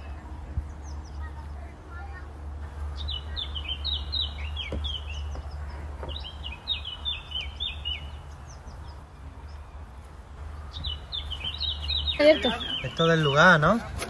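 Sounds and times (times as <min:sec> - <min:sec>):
songbird chirping: 0:00.0 - 0:14.0
steady low hum: 0:00.0 - 0:14.0.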